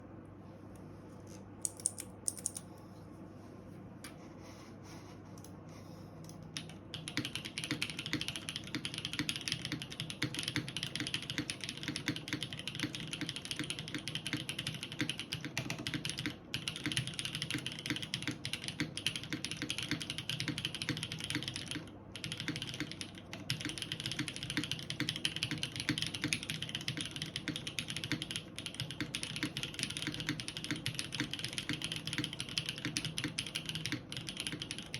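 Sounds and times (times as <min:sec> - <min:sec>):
mechanical keyboard typing: 0:01.6 - 0:02.6, 0:06.3 - 0:34.9.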